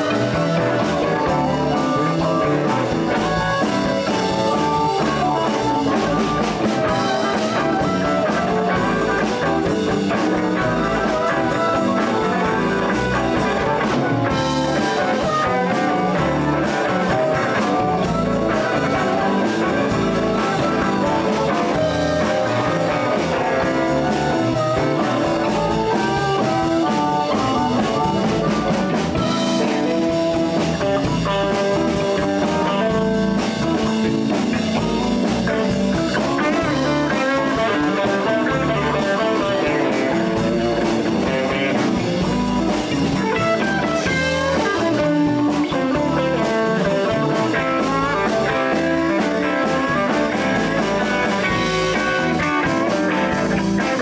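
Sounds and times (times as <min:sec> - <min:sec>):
drums and bass groove: 0:00.0 - 0:54.0
electric guitars: 0:00.0 - 0:54.0.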